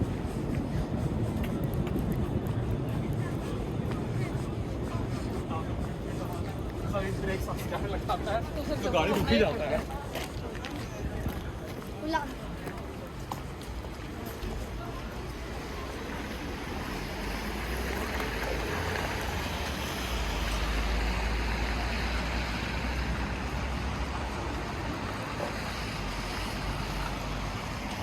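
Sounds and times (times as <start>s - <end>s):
traffic rumble on busy road: 0.0s - 28.0s.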